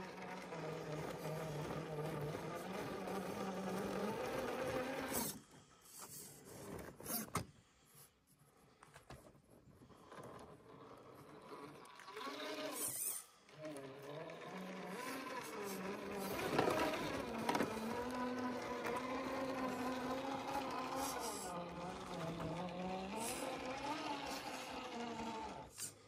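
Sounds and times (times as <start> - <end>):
electric motor whining: 0.0 - 5.4, 10.1 - 26.0.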